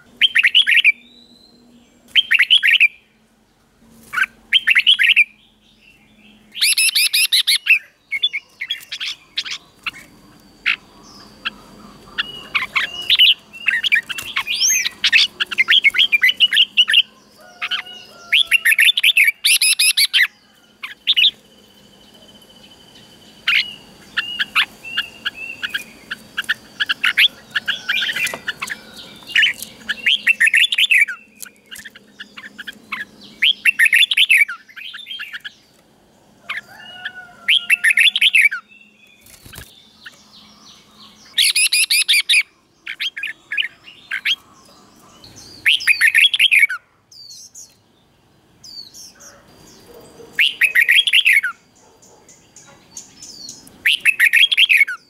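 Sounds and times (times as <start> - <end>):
bird singing rapid phrases: 0.0 - 55.0.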